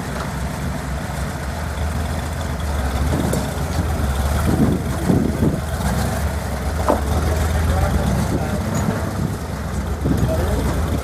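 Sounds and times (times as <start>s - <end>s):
off-road vehicle engine: 0.0s - 11.0s.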